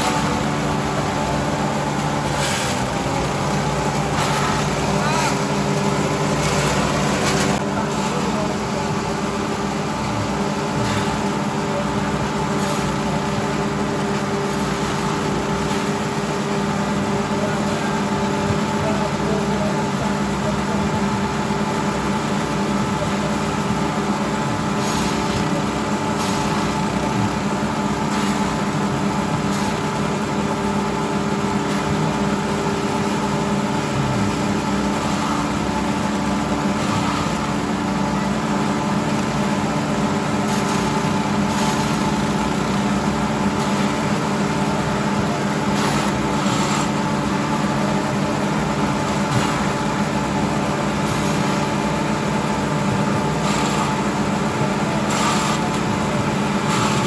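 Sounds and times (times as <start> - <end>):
grass chopper engines running: 0.0 - 57.0.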